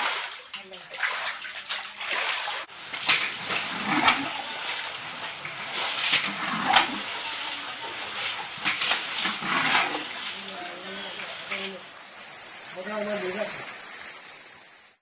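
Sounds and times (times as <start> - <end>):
water splashing and sloshing: 0.0 - 12.8.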